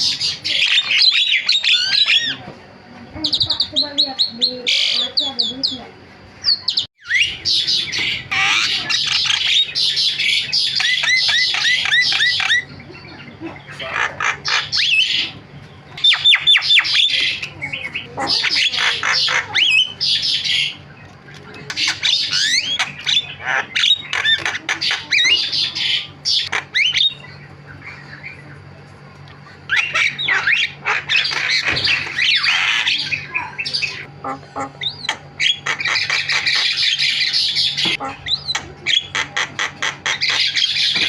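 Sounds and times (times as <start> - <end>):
myna chattering with harsh squawks: 0.0 - 28.8, 29.4 - 41.0.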